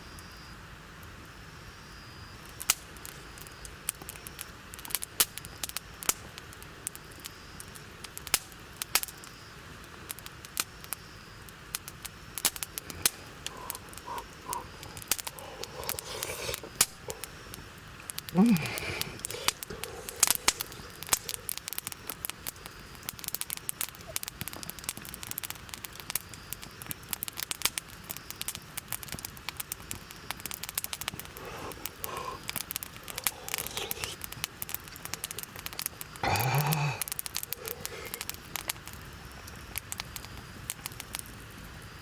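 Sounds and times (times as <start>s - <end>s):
campfire crackling and popping: 0.2s - 42.0s.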